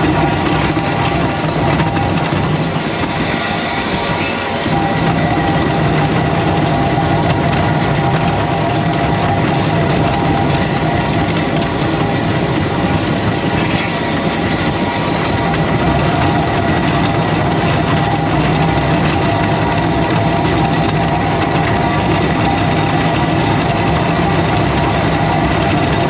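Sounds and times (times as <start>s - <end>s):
skid steer engine under load: 0.0s - 26.0s.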